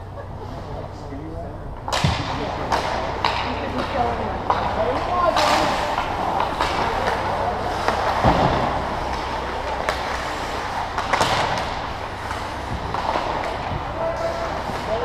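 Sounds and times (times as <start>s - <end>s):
crowd noise: 0.0s - 15.0s
sticks striking puck: 1.9s - 15.0s.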